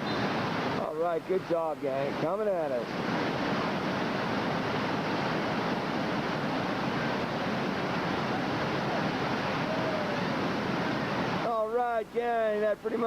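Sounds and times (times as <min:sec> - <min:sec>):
river rapids roaring: 0:00.0 - 0:13.0.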